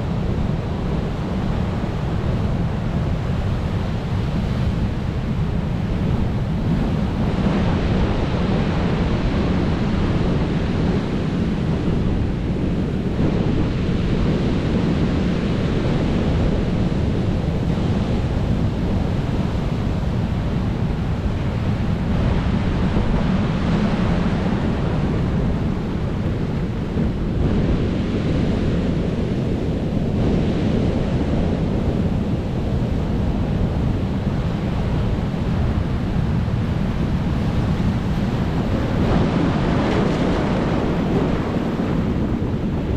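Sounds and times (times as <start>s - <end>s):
low wind rumble on microphone: 0.0s - 42.9s
waves breaking and washing in: 0.0s - 42.9s.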